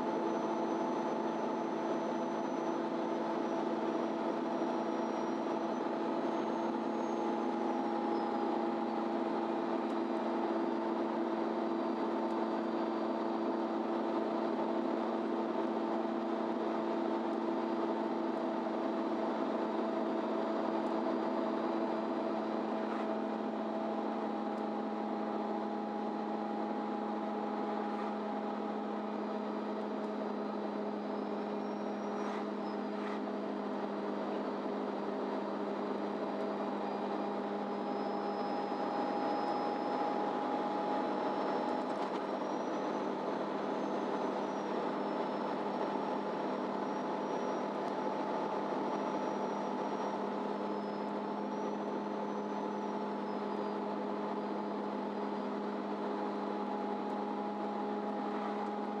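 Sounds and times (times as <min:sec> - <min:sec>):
bus engine humming: 0:00.0 - 0:59.0.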